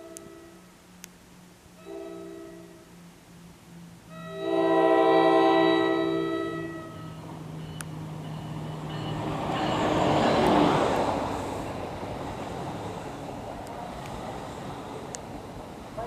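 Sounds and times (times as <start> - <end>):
diesel locomotive passing: 0.0 - 16.0
train cars rolling on rails: 0.0 - 16.0.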